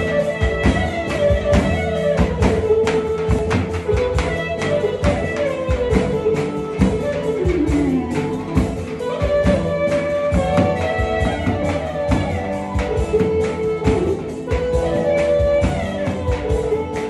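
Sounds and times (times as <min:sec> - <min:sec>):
large folk drum beating: 0:00.0 - 0:17.0
sliding pitch melody: 0:00.0 - 0:17.0.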